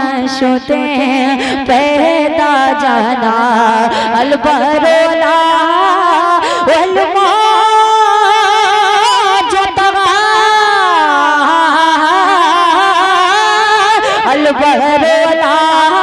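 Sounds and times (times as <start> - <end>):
boy singing into a microphone: 0.0 - 16.0.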